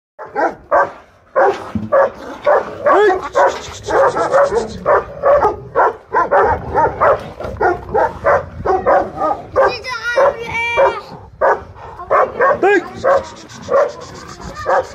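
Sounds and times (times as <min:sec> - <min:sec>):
dogs barking and yelping: 0:00.2 - 0:14.9.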